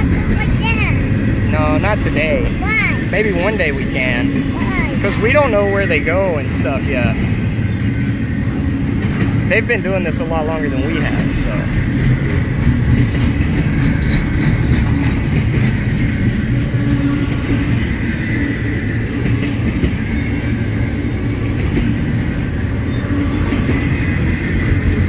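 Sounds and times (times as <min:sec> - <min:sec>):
train wheels rumbling on rails: 0:00.0 - 0:25.0
wheels clicking over rail joints: 0:00.0 - 0:25.0.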